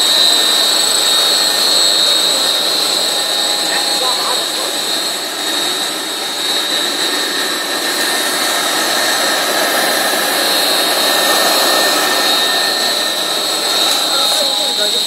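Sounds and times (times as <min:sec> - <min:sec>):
high machine whine: 0:00.0 - 0:15.0
loud steady machine noise: 0:00.0 - 0:15.0.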